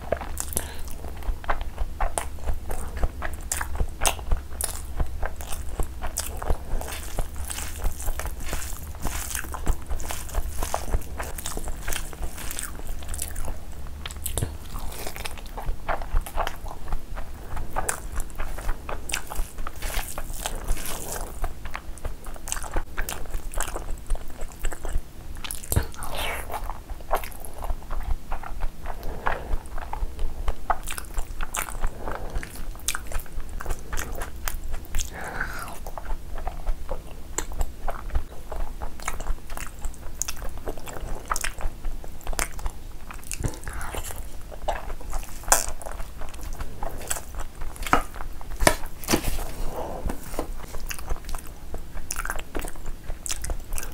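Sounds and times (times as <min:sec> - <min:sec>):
chewing with crunches: 0:00.0 - 0:53.9.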